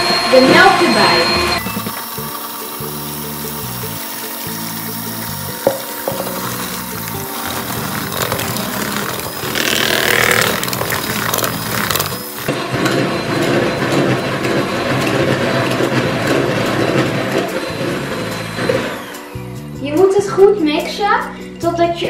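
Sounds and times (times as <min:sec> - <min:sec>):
electric hand mixer whisking batter: 0:00.0 - 0:19.8.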